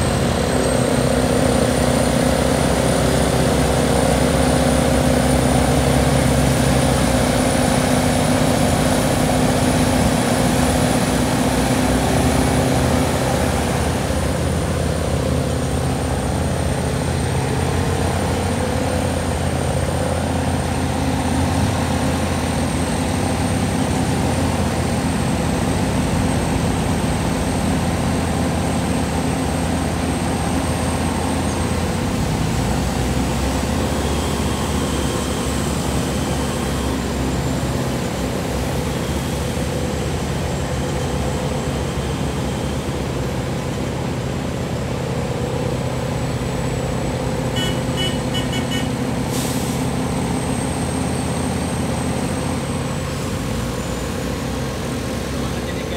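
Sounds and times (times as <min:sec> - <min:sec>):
road milling machine running: 0:00.0 - 0:55.9.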